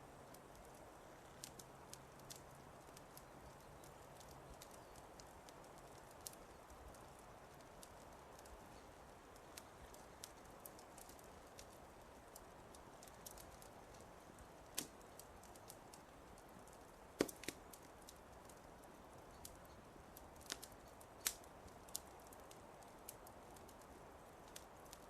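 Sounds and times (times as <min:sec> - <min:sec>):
fire crackling with pops: 0:00.0 - 0:25.0.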